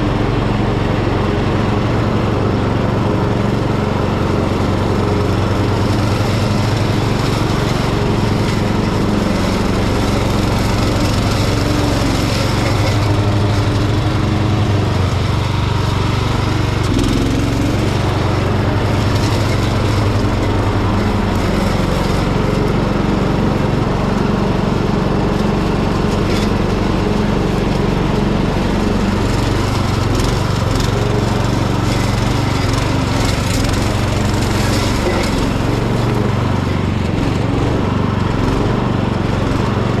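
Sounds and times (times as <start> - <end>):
garden tractor mowing grass: 0.0 - 40.0.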